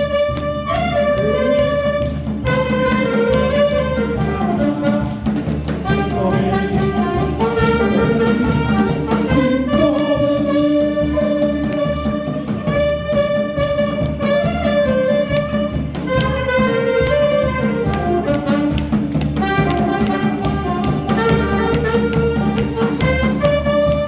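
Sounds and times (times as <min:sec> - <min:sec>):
accompaniment with steady beat: 0:00.0 - 0:24.0
saxophone melody: 0:00.0 - 0:24.0.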